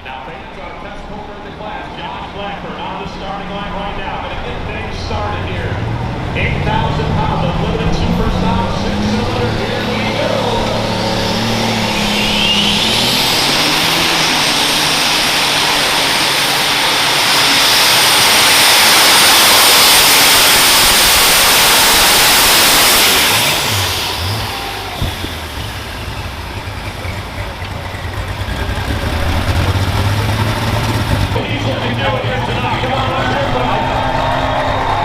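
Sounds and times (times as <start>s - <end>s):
tractor engine at full power: 0.0s - 35.0s.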